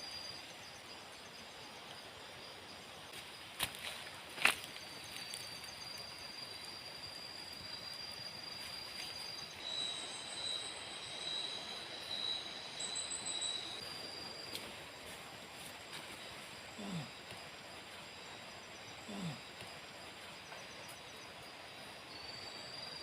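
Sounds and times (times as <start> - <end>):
constant hiss: 0.0 - 23.0
insects trilling: 0.0 - 23.0.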